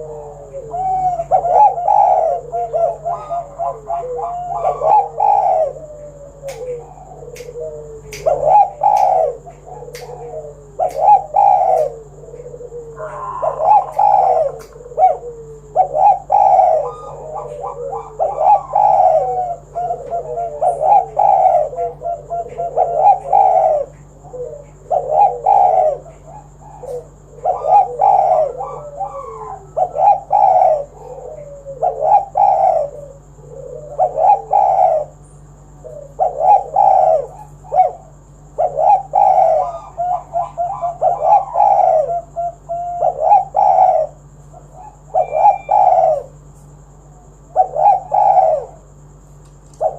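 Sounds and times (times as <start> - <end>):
dove cooing: 0.0 - 49.9.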